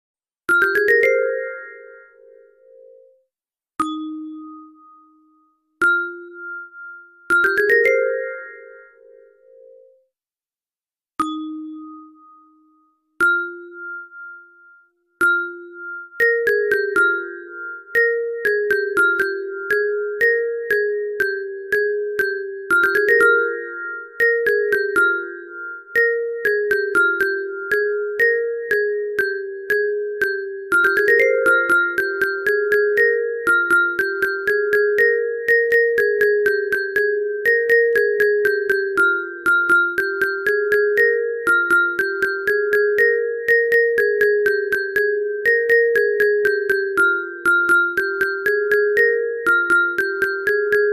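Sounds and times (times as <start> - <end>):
chiming ringtone melody: 0.5 - 10.1, 11.2 - 50.9.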